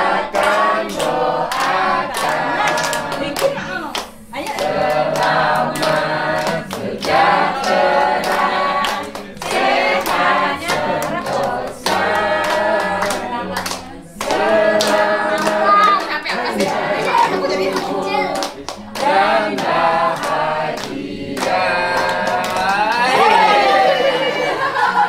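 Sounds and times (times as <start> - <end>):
group singing in unison: 0.0 - 25.0
people clapping along: 0.0 - 25.0.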